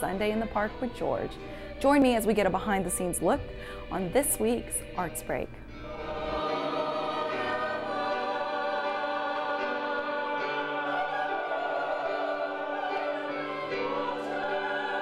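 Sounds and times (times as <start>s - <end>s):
ensemble singing sustained chords: 0.0s - 15.0s.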